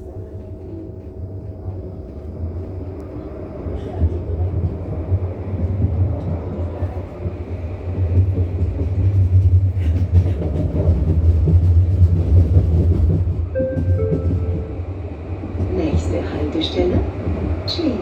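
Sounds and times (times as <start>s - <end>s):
tram rumbling along track: 0.0s - 18.0s.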